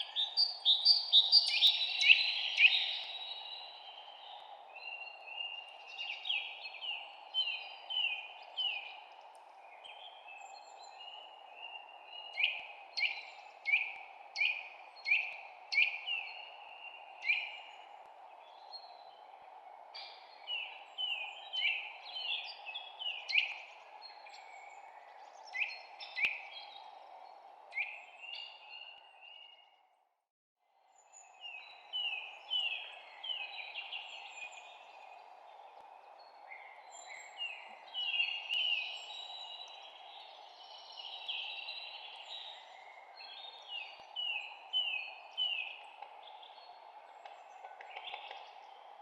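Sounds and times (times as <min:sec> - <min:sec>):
songbirds chirping: 0:00.0 - 0:30.0, 0:30.7 - 0:49.0.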